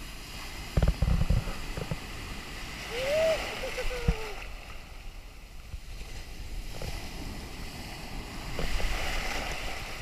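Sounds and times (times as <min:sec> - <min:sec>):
surf rushing and churning: 0:00.0 - 0:10.0.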